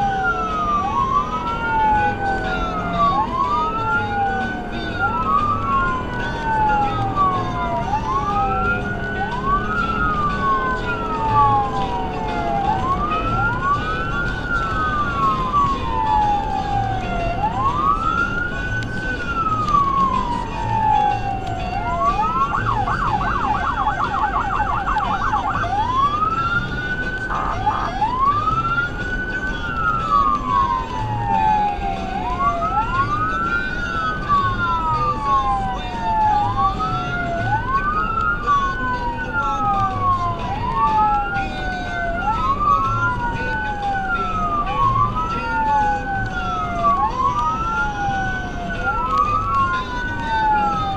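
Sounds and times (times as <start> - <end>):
electronic siren wailing: 0.0 - 50.9
road noise inside vehicle: 0.0 - 50.9.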